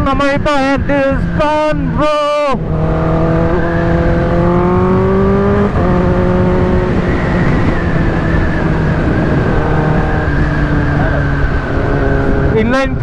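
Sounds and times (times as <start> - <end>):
constant rushing noise: 0.0 - 13.0
motorcycle engine accelerating: 0.0 - 13.0.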